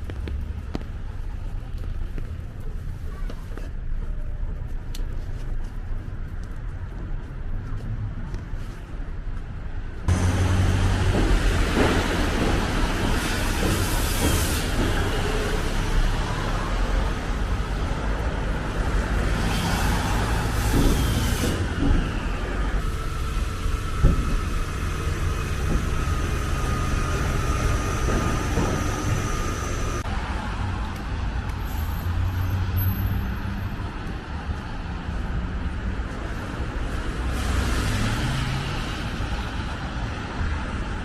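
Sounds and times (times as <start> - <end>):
traffic rumble: 0.0 - 41.0
vehicle whine: 0.0 - 41.0.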